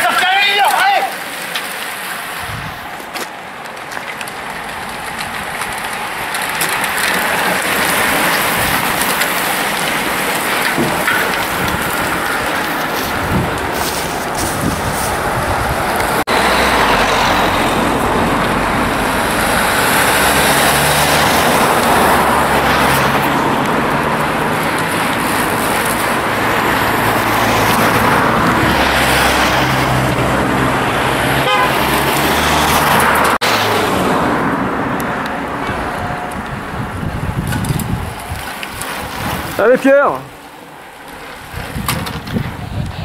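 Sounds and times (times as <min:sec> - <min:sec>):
car engine passing: 0:01.2 - 0:38.0
loud rushing noise: 0:06.3 - 0:43.0.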